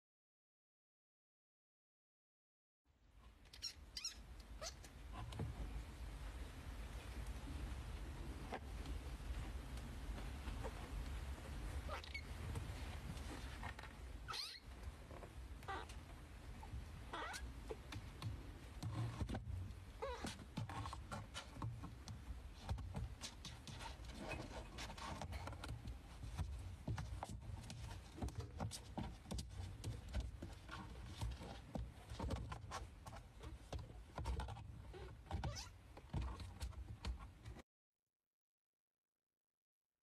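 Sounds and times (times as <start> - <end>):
soft clicks and scrapes: 3.3 - 37.6
kittens rustling on blanket: 4.7 - 37.6.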